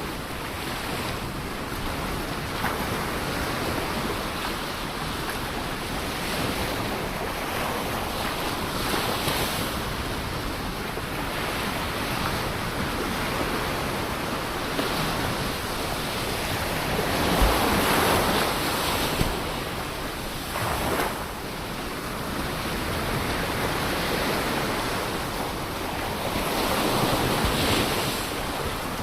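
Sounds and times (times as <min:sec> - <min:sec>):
ocean surf washing: 0:00.0 - 0:29.0.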